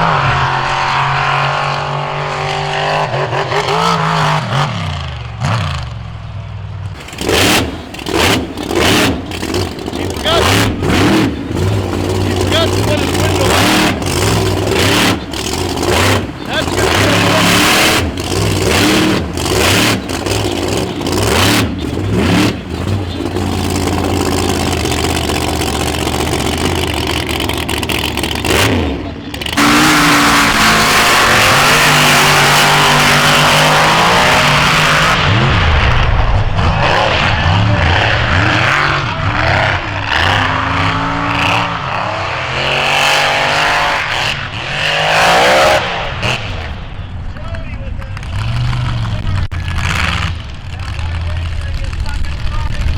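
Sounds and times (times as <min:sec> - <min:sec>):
off-road vehicle engines revving: 0:00.0 - 0:52.9.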